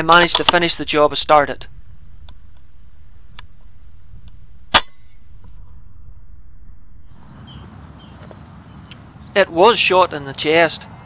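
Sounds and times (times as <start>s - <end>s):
steady low background noise: 0.0s - 10.6s.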